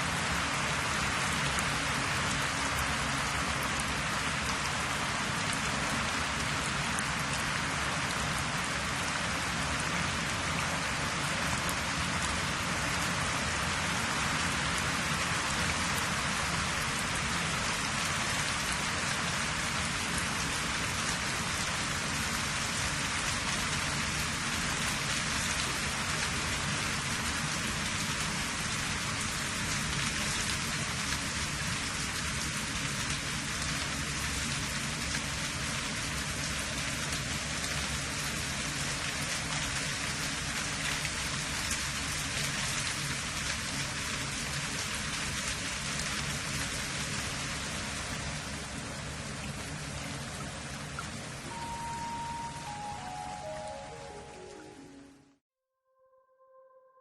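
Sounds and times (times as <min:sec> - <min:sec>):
rain-like hiss with fine ticks: 0:00.0 - 0:55.2.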